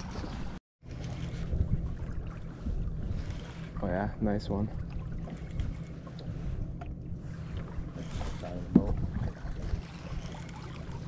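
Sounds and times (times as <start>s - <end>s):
wind on microphone: 0.0s - 4.0s, 4.7s - 11.0s
boat motor humming: 0.0s - 11.0s.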